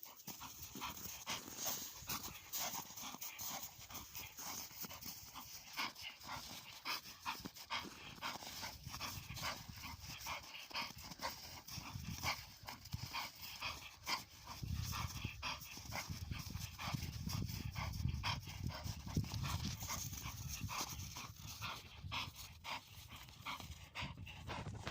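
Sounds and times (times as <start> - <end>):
dog panting: 0.0 - 24.9.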